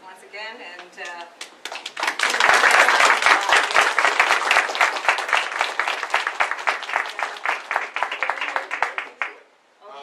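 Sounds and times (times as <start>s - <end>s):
group applause: 1.1s - 9.4s.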